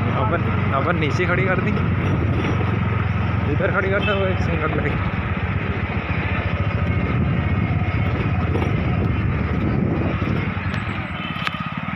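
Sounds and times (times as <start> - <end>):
motorcycle engine running: 0.0 - 11.9
road and wind noise: 0.0 - 11.9.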